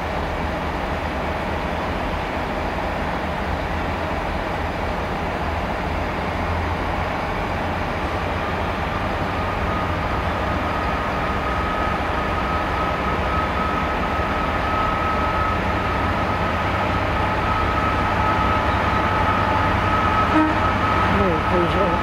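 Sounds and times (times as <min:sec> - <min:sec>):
diesel locomotive engine rumble: 0:00.0 - 0:22.0.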